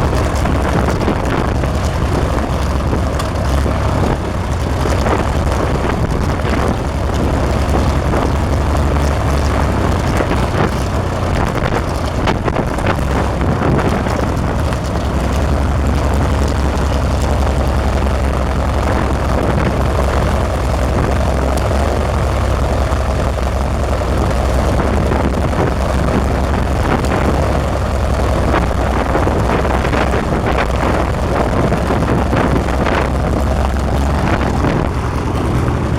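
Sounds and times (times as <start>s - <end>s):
aircraft propeller engine running: 0.0s - 35.9s.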